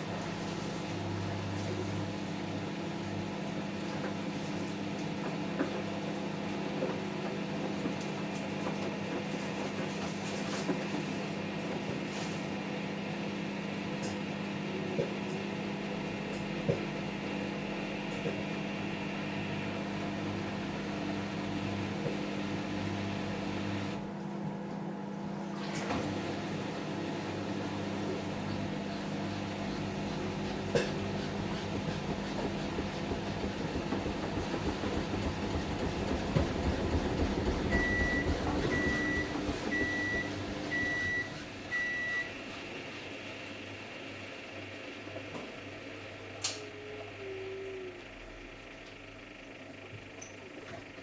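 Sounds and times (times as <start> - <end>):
washing machine motor hum: 0.0 - 51.0.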